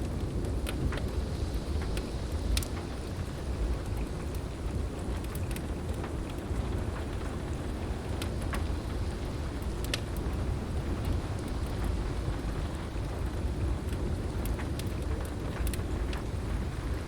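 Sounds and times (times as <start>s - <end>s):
fireplace crackles and pops: 0.0s - 17.0s
heavy rain: 0.0s - 17.0s.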